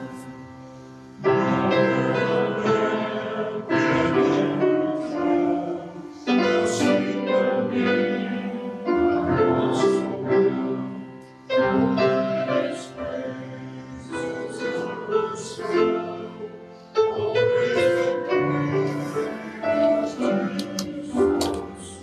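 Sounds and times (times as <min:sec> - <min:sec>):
person singing a hymn: 0:00.0 - 0:22.0
piano accompaniment: 0:00.0 - 0:22.0.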